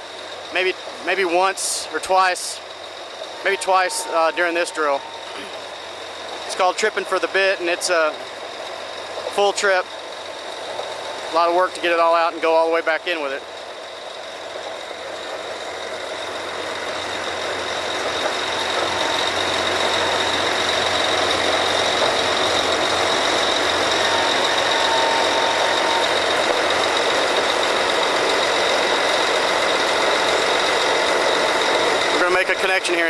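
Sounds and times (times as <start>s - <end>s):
thin high whine: 0.0s - 8.3s, 9.4s - 33.0s
drilling rig machinery din: 0.0s - 33.0s.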